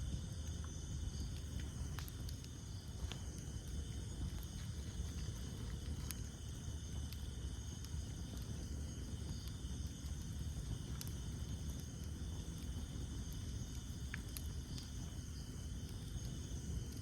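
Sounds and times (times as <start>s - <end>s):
burning wood crackling: 0.0s - 17.0s
campfire flames rumbling: 0.0s - 17.0s
night insects chirring: 0.0s - 17.0s.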